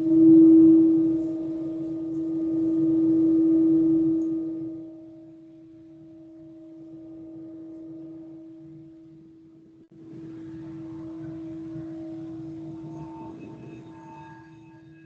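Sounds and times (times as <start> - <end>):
singing bowl ringing: 0.0 - 15.0.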